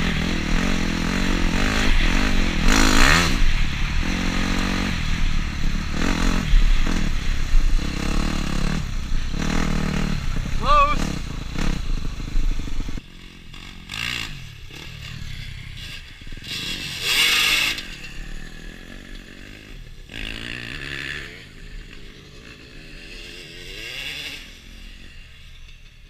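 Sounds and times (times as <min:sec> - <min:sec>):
dirt bike engine running close: 0:00.0 - 0:26.0
dirt bikes revving past: 0:00.0 - 0:26.0.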